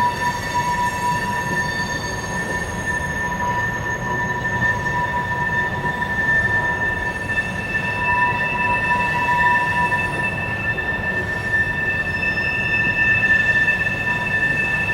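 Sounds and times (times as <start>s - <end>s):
train wheels squealing: 0.0s - 14.9s.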